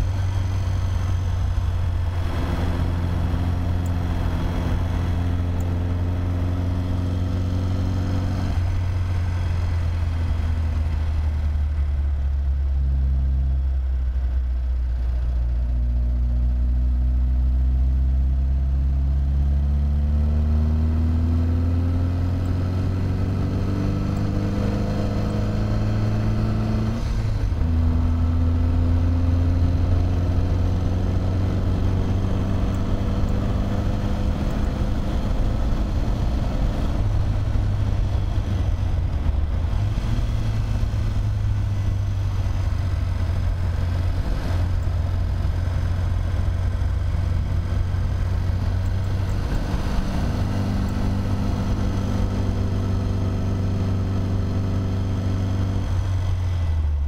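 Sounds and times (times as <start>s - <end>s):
car engine under load: 0.0s - 57.0s.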